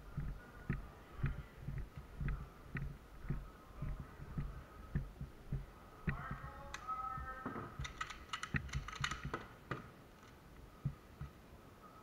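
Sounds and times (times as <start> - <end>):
rapid light clicks and knocks: 0.0 - 11.4.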